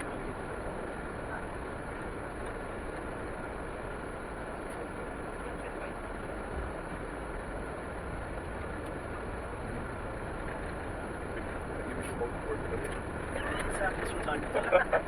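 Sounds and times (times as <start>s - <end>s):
vehicle rumble from inside cabin: 0.0s - 15.0s.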